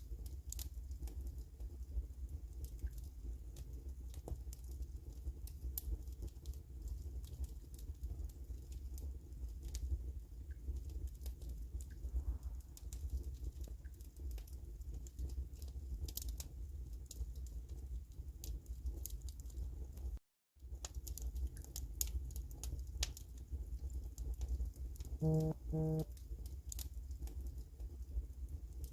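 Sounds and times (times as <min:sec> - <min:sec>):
wood fire crackling and popping: 0:00.0 - 0:25.2, 0:26.1 - 0:28.9
low steady fire rumble: 0:00.0 - 0:28.9.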